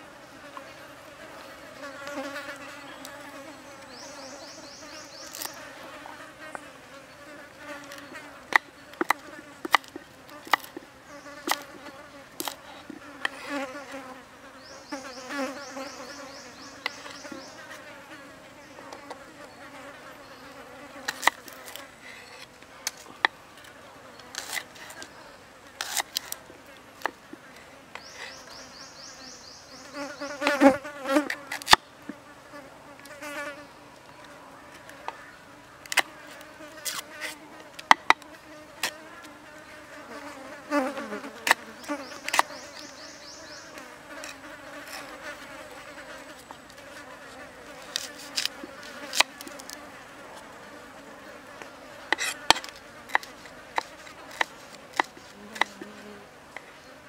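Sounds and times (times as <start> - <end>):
fly buzzing: 0.0 - 23.2, 27.6 - 57.0.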